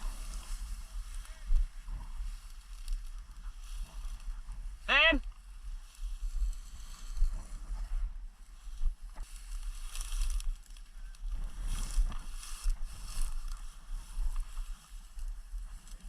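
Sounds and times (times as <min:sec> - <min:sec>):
rustling hiss: 0:00.0 - 0:16.0
wind buffeting microphone: 0:00.0 - 0:16.0.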